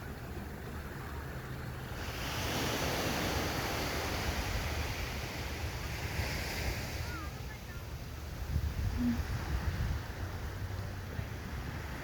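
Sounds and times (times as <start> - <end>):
ocean waves breaking: 0.0 - 12.0
wind buffeting microphone: 1.6 - 12.0.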